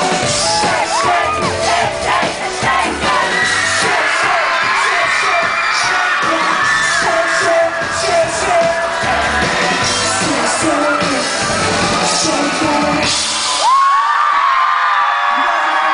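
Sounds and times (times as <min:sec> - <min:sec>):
person singing: 0:00.0 - 0:13.8
pop-rock band playing: 0:00.0 - 0:13.9
crowd yelling and cheering: 0:00.0 - 0:15.9.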